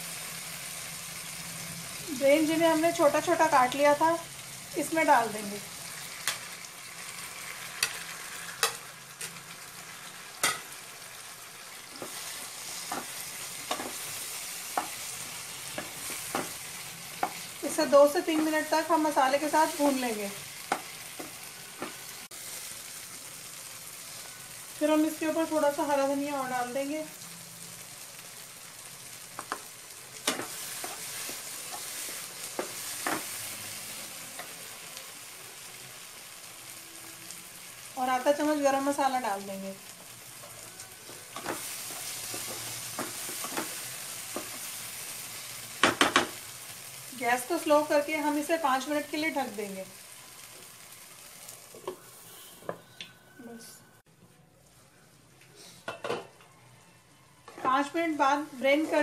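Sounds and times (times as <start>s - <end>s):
food sizzling in a pan: 0.0s - 54.0s, 54.6s - 59.0s.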